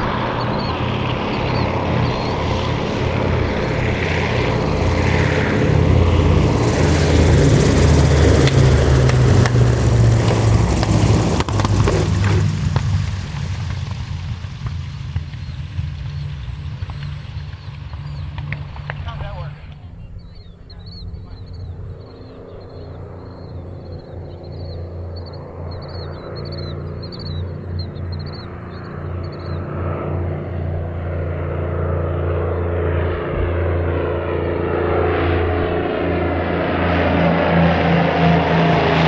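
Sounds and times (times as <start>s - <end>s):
propeller plane engine passing: 0.0s - 39.0s.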